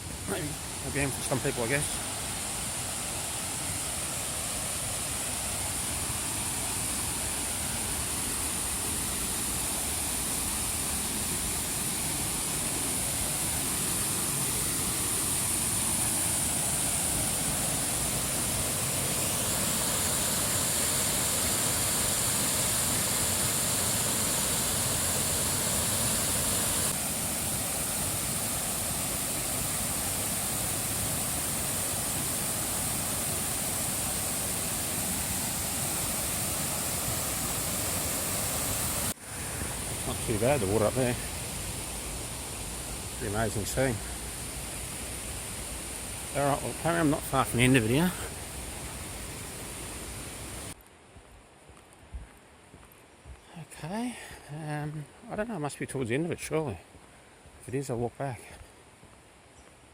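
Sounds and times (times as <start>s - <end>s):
water rushing down a stream: 0.0s - 50.8s.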